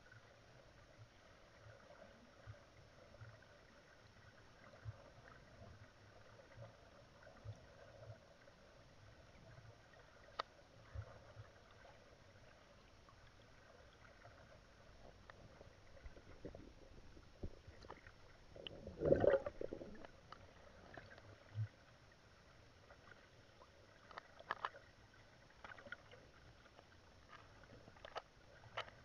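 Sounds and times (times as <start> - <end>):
faint steady underwater hum: 0.0 - 29.0.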